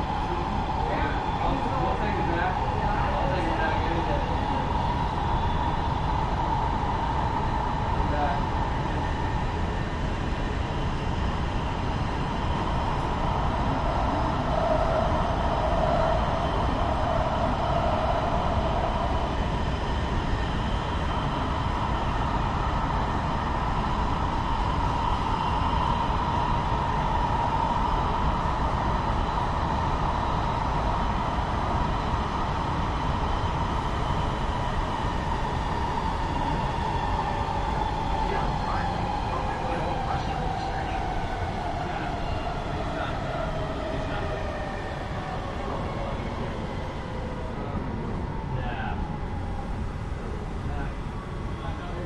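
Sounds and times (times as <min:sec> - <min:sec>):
train rumble: 0:00.0 - 0:52.0
train whine: 0:00.0 - 0:52.0.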